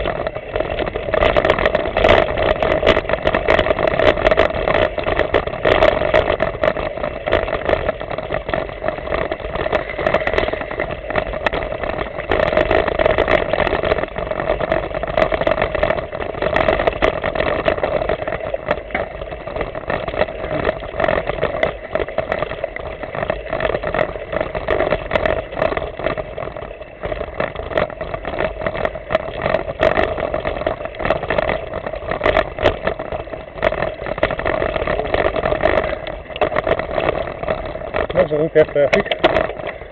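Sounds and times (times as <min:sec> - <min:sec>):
bike knocks and rattles: 0:00.0 - 0:39.9
bike ride hum: 0:00.0 - 0:39.9.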